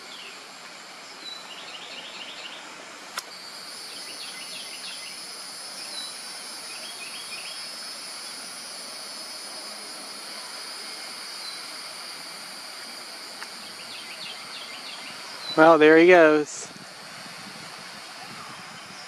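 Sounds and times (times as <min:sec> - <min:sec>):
high drone of insects: 0:00.0 - 0:19.0.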